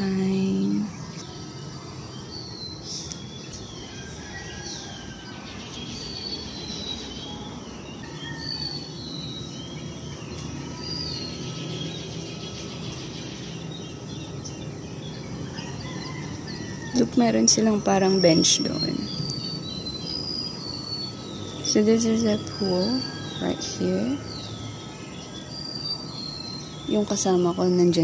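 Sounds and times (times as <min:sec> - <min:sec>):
birds chirping and whistling: 0:00.0 - 0:28.0
low outdoor hum: 0:00.0 - 0:28.0.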